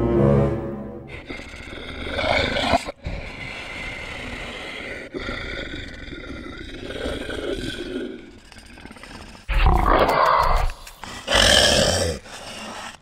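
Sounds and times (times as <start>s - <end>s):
beast growls and roars: 1.0s - 13.0s.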